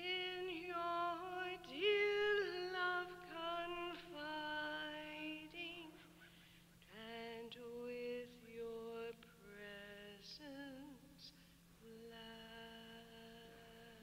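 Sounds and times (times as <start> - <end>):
faint steady hum: 0.0 - 14.0
soft slow hymn singing: 0.0 - 14.0.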